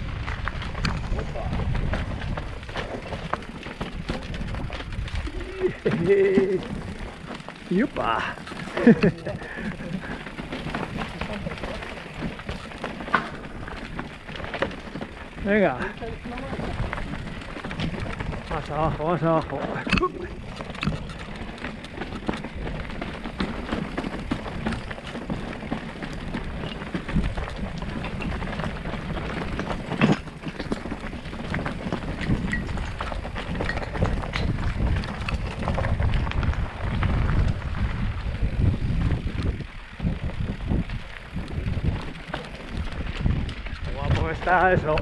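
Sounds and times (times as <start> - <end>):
clicks and knocks on rough trail: 0.0 - 45.0
wind buffeting microphone: 0.0 - 45.0.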